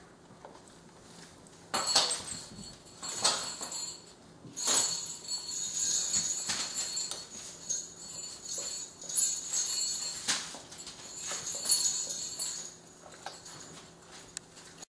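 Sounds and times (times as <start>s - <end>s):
collar tag jingling: 1.7s - 14.4s.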